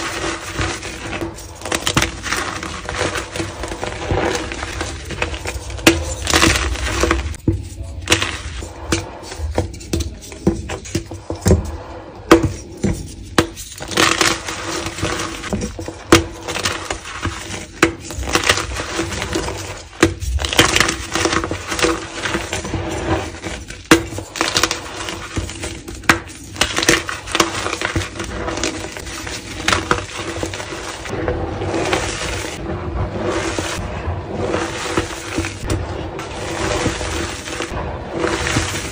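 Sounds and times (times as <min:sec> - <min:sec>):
chalk cracking and crunching: 0:00.0 - 0:38.9.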